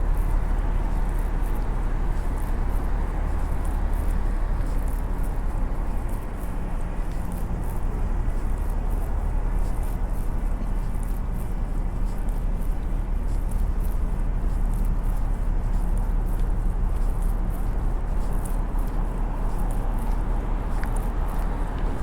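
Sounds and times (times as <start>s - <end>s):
low outdoor city rumble: 0.0s - 22.0s.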